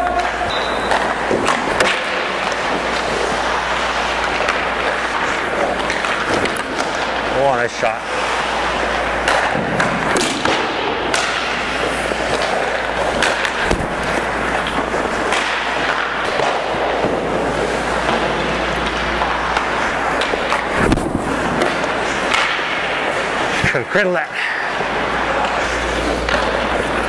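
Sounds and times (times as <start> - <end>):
pucks knocking sticks: 0.0 - 7.8, 8.6 - 23.8, 25.3 - 27.0
skate blades scraping ice: 0.0 - 27.0.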